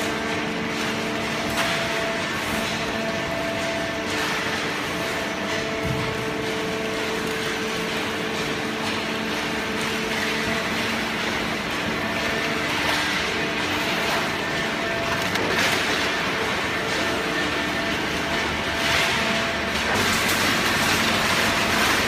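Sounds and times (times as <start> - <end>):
baler machine hum: 0.0 - 22.0.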